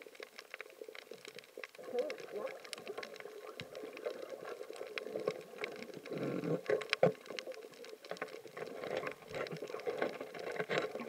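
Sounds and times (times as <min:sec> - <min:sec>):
gurgling rush of water: 0:00.0 - 0:11.0
sharp clicks and crackles: 0:00.0 - 0:11.0
underwater water noise: 0:00.0 - 0:11.0.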